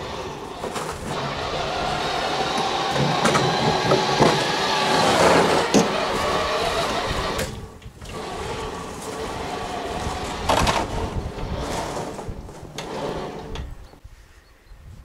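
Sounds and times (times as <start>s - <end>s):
electric gear motor whine: 0.0s - 14.0s
knocks rattling: 0.0s - 14.0s.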